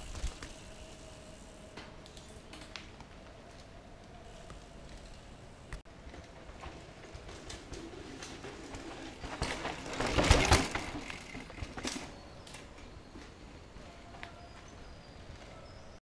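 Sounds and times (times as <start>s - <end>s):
mountain bike passing on dirt: 0.0s - 16.0s.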